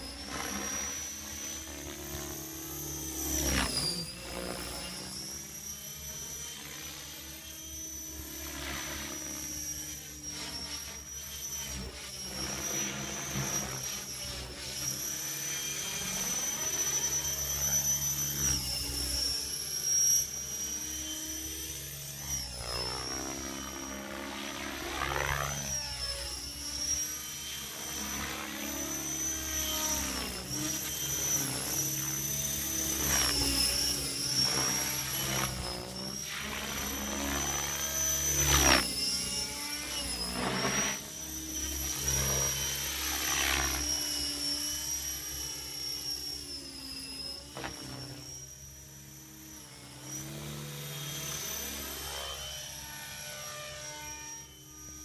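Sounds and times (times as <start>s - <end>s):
low rotor hum: 0.0s - 46.5s
rc helicopter motor whine: 0.0s - 55.0s.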